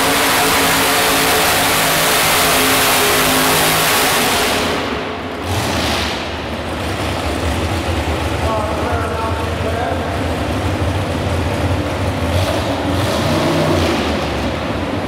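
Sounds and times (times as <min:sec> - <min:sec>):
racing tractor engine: 0:00.0 - 0:15.0.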